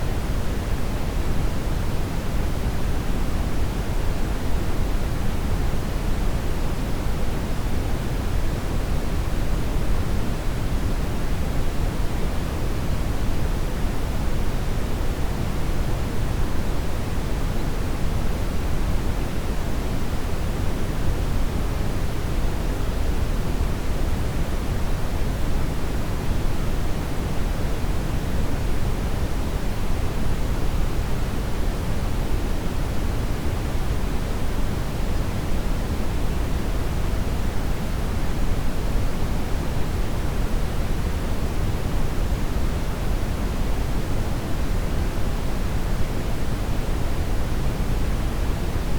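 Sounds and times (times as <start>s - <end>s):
deep steady brown noise hiss: 0.0s - 48.9s.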